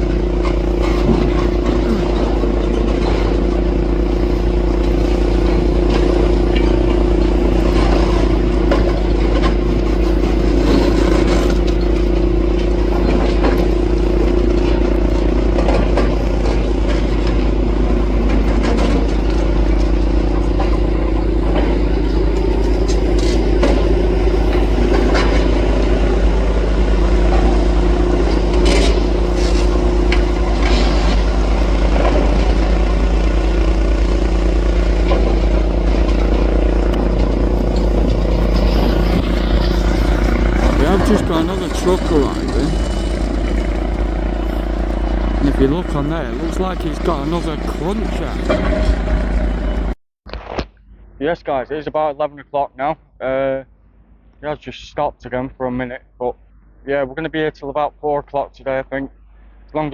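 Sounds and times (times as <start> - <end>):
diesel engine and hydraulics droning: 0.0 - 50.0.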